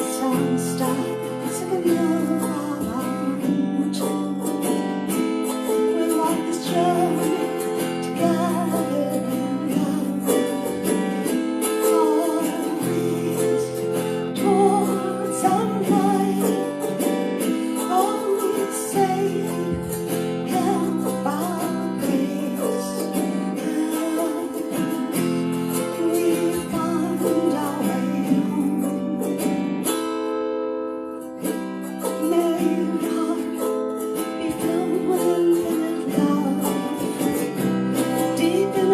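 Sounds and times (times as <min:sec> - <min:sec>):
meditative plucked string music: 0:00.0 - 0:38.9.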